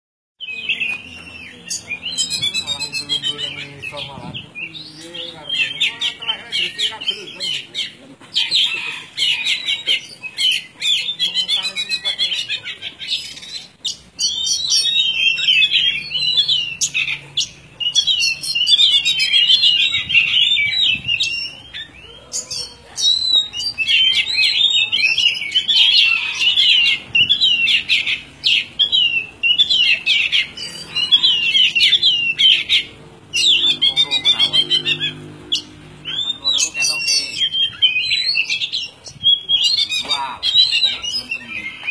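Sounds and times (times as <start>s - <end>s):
bird singing rapid warbling phrases: 0.4s - 41.9s.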